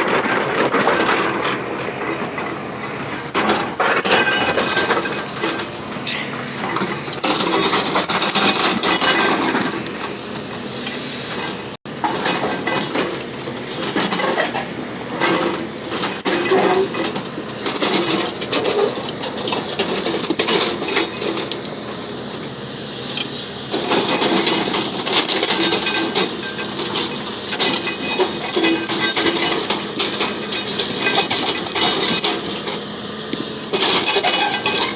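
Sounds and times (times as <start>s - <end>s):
bulldozer tracks clanking on rock: 0.0s - 34.9s.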